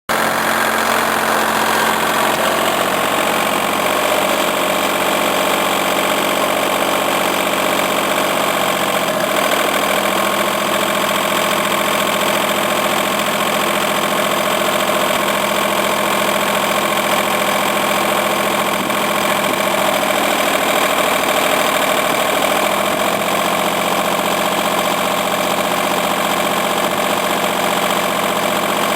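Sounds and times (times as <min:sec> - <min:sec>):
tractor engine idling: 0:00.1 - 0:28.9.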